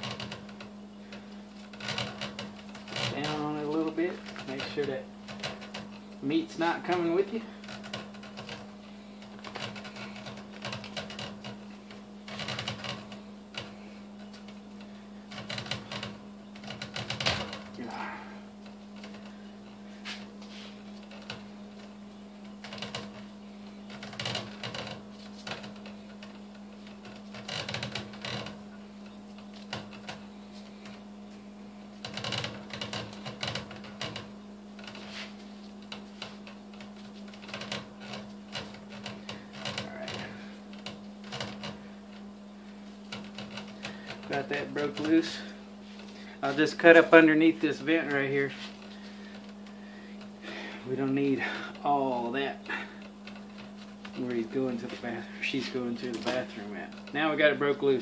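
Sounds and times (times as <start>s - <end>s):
hide crackling and clicking: 0.0s - 58.0s
steady low hum: 0.0s - 58.0s.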